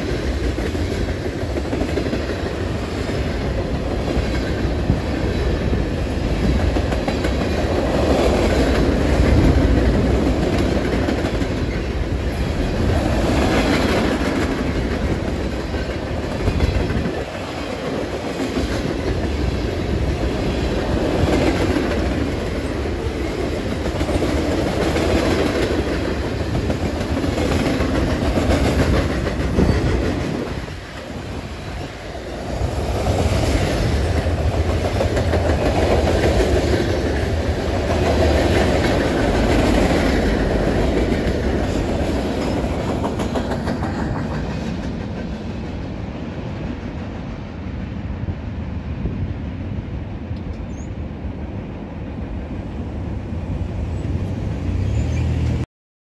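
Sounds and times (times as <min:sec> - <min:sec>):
freight train wheels on rails: 0:00.0 - 0:55.6.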